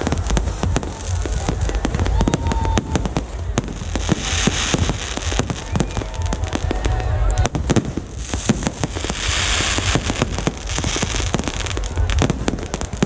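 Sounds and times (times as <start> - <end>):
fireworks bangs and cracks: 0.0 - 13.0
hissing crackle: 0.0 - 13.0.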